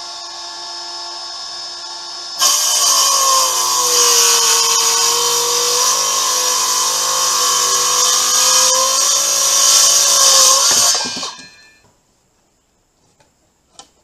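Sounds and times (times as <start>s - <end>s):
circular saw cutting wood: 0.0s - 11.7s.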